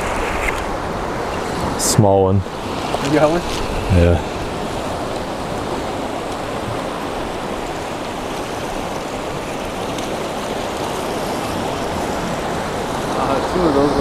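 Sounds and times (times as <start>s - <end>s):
ocean surf washing against rocks: 0.0s - 14.0s.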